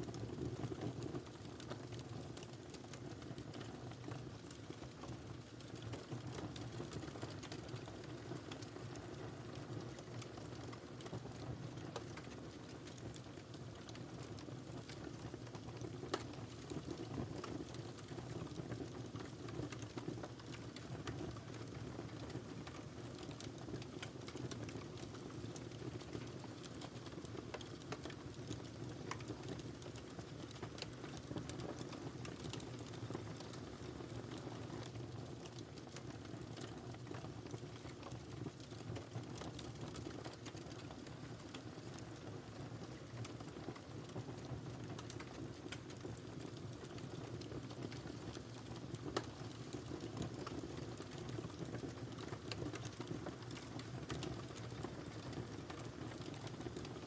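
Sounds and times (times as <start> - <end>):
fire rumbling in fireplace: 0.0 - 57.0
fire crackling and popping: 0.1 - 57.0.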